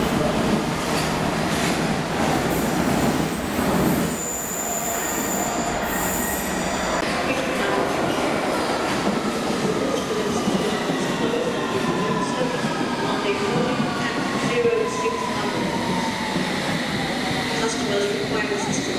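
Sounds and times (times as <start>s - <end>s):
train rumbling over rails: 0.0s - 18.9s.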